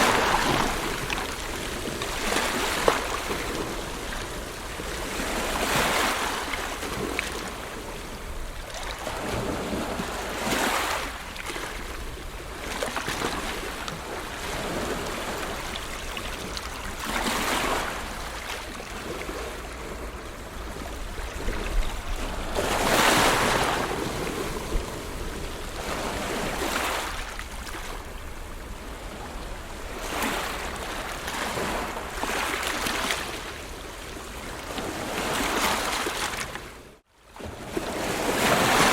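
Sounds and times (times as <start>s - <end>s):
wind rumble on microphone: 0.0s - 32.2s
ocean waves breaking on shore: 0.0s - 38.9s.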